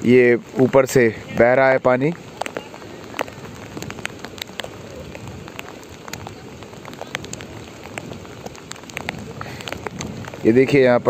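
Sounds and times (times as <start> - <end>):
floodwater rushing: 0.0 - 11.0
heavy rain: 0.0 - 11.0
raindrops ticking close by: 0.0 - 11.0.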